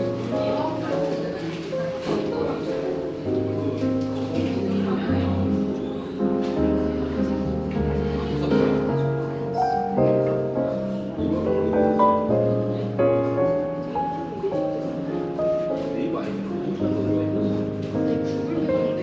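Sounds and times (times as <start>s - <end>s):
jazz piano chords: 0.0s - 19.0s.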